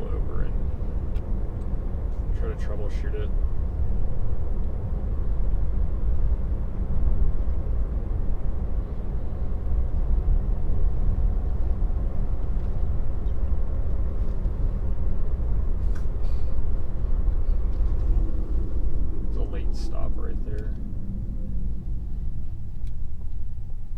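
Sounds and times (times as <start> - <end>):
road and tyre rumble in car: 0.0 - 23.9.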